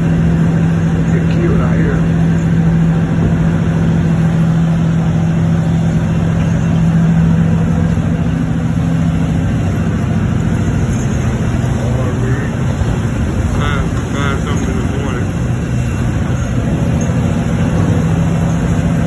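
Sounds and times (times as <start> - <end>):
boat engine humming: 0.0 - 19.0
rushing water: 0.0 - 19.0
wind: 0.0 - 19.0.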